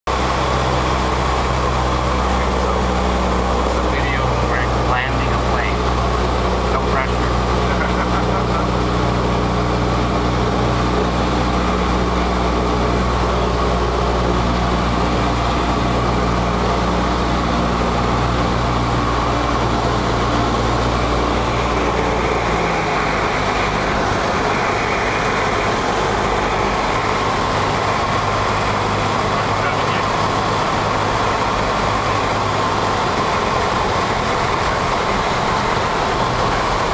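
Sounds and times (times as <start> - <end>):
plane engine and propeller drone: 0.1 - 36.9
airflow noise: 1.4 - 36.8.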